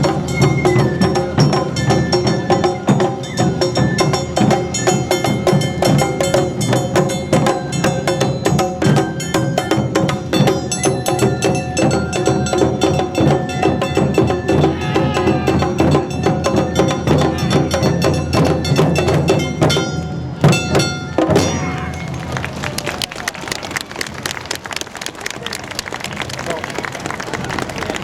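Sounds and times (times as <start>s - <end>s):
drums beating: 0.0s - 23.2s.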